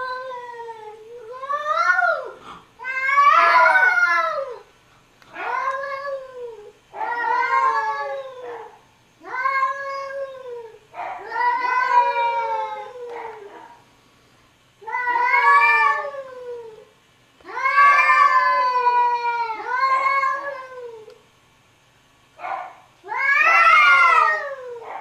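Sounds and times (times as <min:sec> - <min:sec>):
cats yowling: 0:00.0 - 0:04.7, 0:05.3 - 0:13.8, 0:14.8 - 0:21.2, 0:22.4 - 0:25.0.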